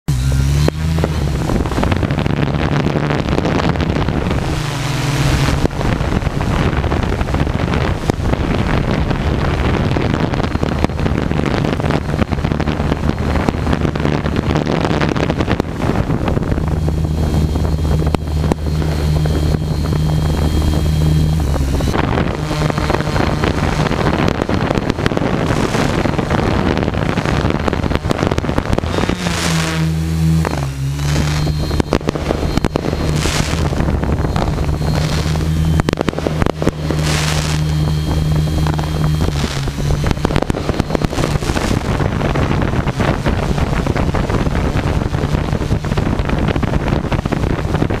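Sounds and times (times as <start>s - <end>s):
drone motors humming: 0.0s - 48.0s
wind on microphone: 0.1s - 48.0s.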